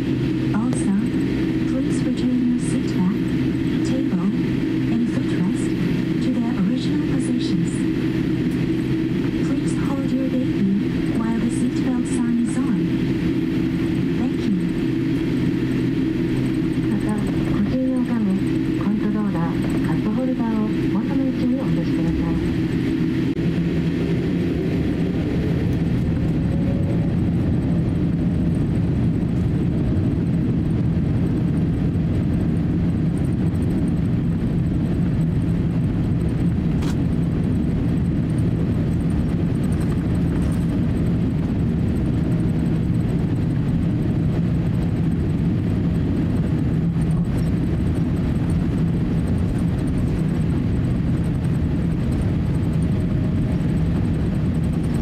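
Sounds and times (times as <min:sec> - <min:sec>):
airplane engine rumble in cabin: 0:00.0 - 0:55.0.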